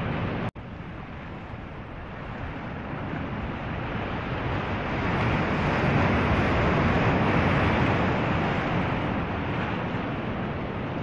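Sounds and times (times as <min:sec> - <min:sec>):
sea waves rushing: 0:00.0 - 0:11.0
wind: 0:00.0 - 0:11.0.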